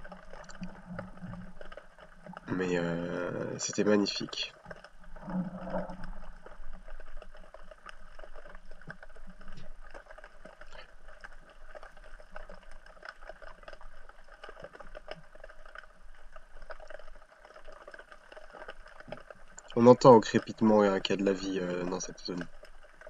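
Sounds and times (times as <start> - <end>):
underwater crackling of marine life: 0.0 - 23.0.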